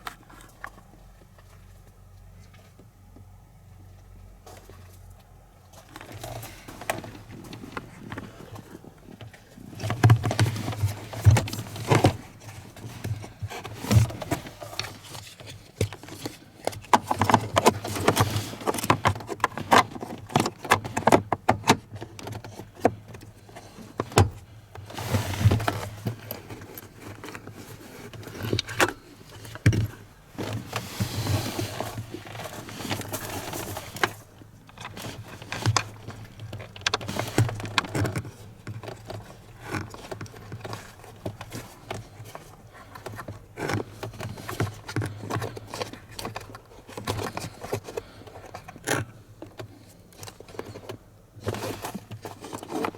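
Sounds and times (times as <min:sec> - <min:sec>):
hands handling plastic parts: 0:05.7 - 0:52.9.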